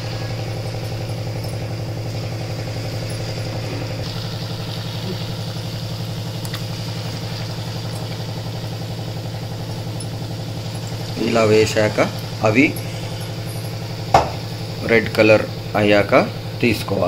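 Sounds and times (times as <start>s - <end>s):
batter frying in oil: 0.0s - 17.0s
low machine hum: 0.0s - 17.0s.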